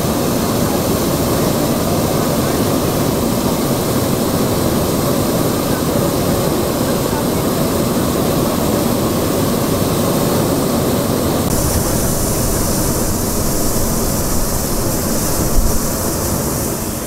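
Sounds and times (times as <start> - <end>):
propane burners roaring: 0.0 - 17.0.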